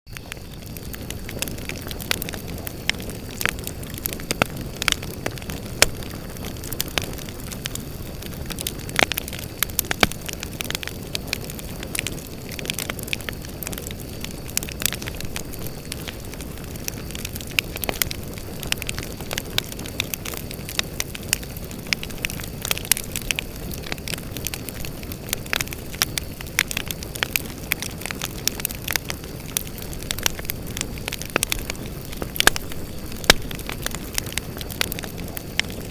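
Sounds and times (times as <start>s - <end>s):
campfire crackling and popping: 0.1s - 35.9s
insects trilling: 0.1s - 35.9s
flame rushing: 0.2s - 35.9s.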